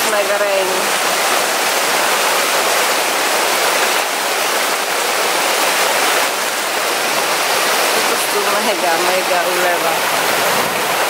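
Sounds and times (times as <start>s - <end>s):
heavy rain on foliage and tarp: 0.0s - 11.0s
water running off tarp: 0.0s - 11.0s.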